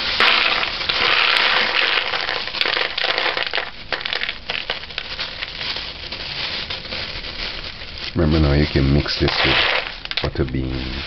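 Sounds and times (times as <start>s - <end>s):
dried beans rattling into bowl: 0.0s - 11.0s
plastic bag crinkling: 0.0s - 11.0s.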